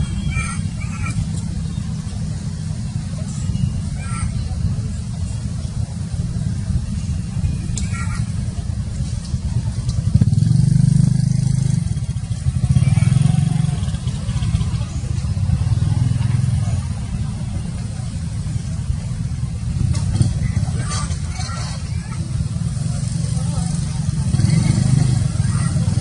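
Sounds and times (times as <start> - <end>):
passing motor vehicles rumble: 0.0 - 26.0.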